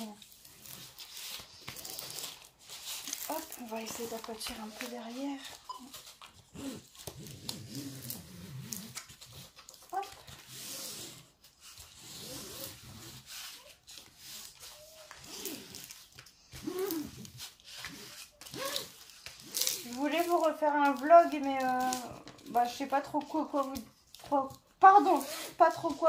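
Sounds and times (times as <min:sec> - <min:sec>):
paper rustling and rubbing: 0:00.0 - 0:26.0.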